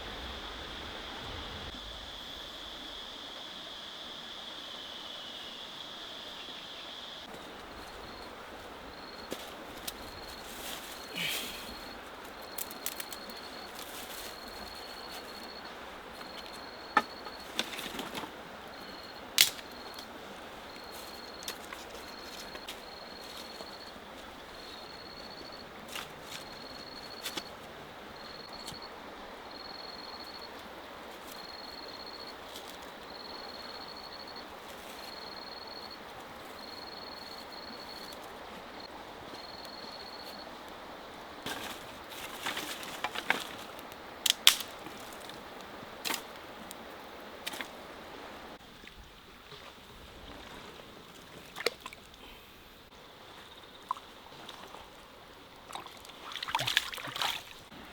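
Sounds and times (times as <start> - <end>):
insect chirping: 0.0 - 57.9.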